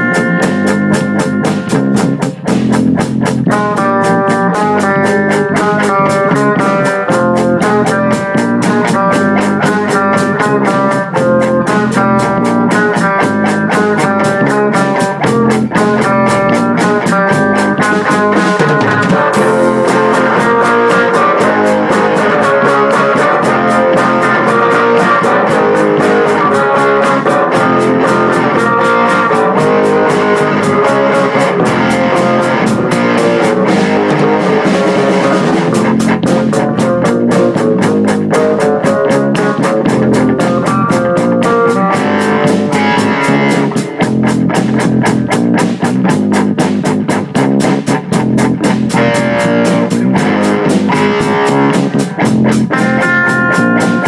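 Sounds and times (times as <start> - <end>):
plucked guitar tune: 0.0 - 54.0
steady beat: 0.0 - 54.0.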